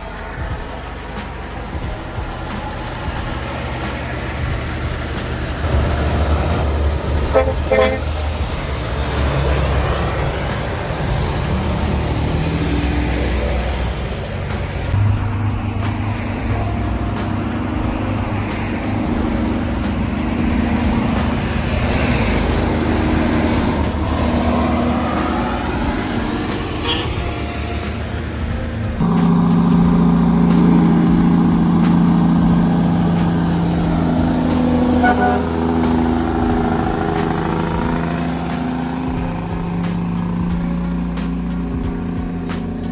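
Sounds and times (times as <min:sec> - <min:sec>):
heavy truck engine rumble: 0:00.0 - 0:42.9
road noise: 0:00.0 - 0:42.9
horn toots: 0:03.9 - 0:15.2, 0:15.9 - 0:42.9.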